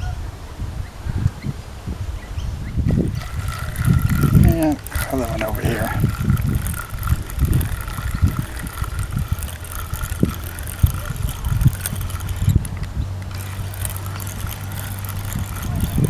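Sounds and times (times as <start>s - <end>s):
gusty wind buffeting microphone: 0.0s - 16.0s
steady low hum: 2.8s - 16.0s.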